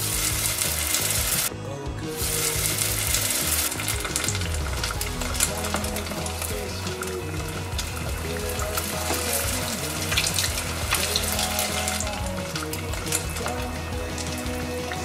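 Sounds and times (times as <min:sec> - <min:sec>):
food deep-frying in oil: 0:02.2 - 0:15.0.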